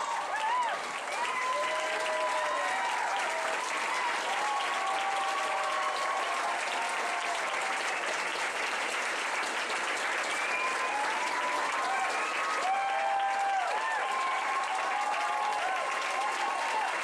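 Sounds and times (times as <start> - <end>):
voices cheering: 0.0 - 8.0, 10.1 - 17.0
audience clapping: 0.0 - 17.0.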